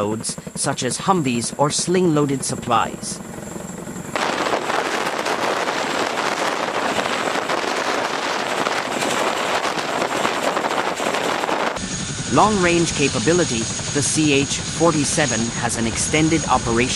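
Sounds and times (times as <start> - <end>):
helicopter hovering close by: 0.0 - 16.9.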